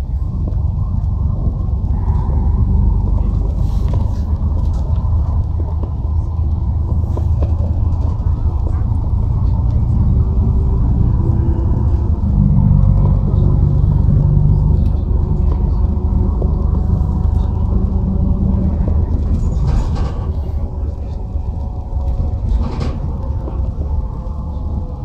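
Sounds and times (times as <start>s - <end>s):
road vehicle rumble: 0.0s - 25.0s.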